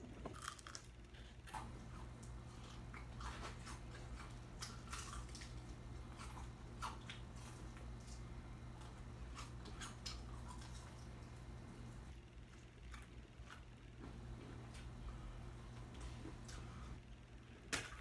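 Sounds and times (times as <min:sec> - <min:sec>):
steady low hum: 0:00.0 - 0:18.0
person chewing crispy food: 0:00.3 - 0:17.0.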